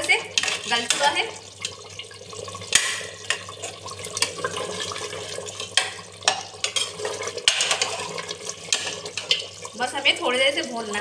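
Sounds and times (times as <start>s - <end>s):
water sizzling: 0.0s - 11.0s.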